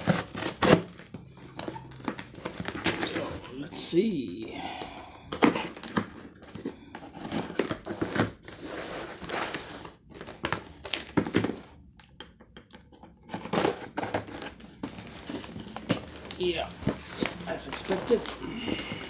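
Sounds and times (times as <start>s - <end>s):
packaging crinkling and tearing: 0.0s - 4.2s, 5.3s - 11.8s, 13.3s - 19.0s.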